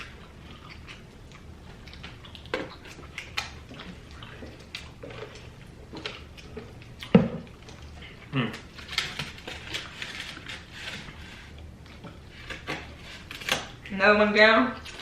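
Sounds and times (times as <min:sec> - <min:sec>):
wet chewing and smacking: 0:00.0 - 0:14.0, 0:14.7 - 0:15.0.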